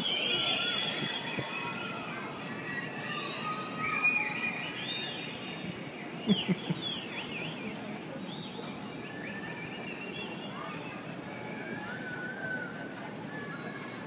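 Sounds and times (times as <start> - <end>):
crowd whooping and whistling: 0.0 - 10.8, 11.4 - 13.5.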